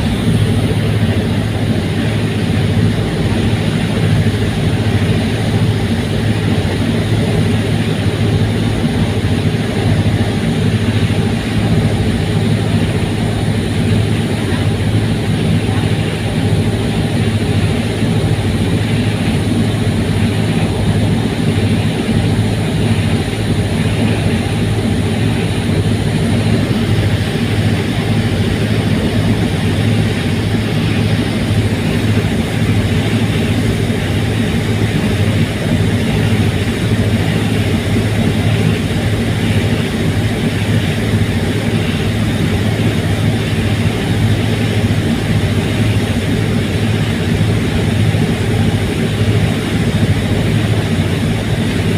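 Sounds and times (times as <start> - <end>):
ferry engines droning: 0.0 - 51.9.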